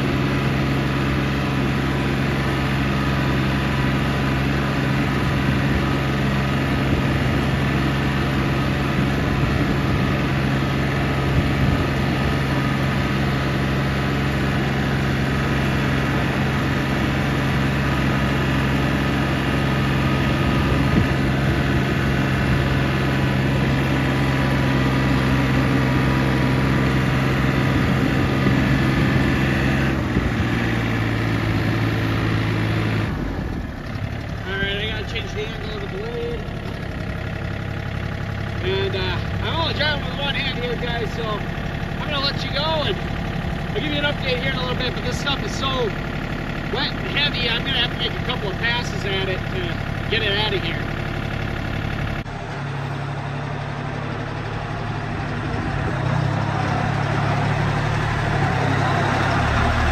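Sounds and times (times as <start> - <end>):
loader bucket pushing snow: 0.0 - 59.9
tractor engine droning: 0.0 - 59.9.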